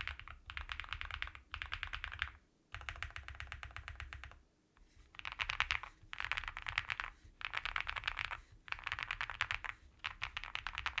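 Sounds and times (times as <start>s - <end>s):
fast typing on mechanical keyboard: 0.0s - 4.4s, 5.2s - 11.0s.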